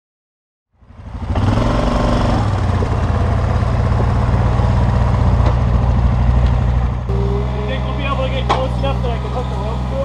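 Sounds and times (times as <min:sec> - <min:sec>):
excavator diesel engine running: 0:01.2 - 0:10.0.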